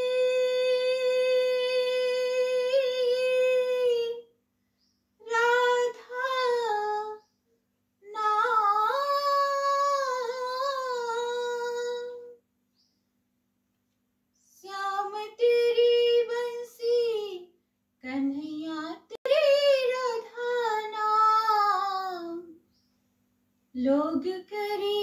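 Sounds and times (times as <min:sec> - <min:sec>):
woman singing unaccompanied: 0:00.0 - 0:04.3, 0:05.2 - 0:07.3, 0:08.0 - 0:12.4, 0:14.5 - 0:22.6, 0:23.7 - 0:25.0.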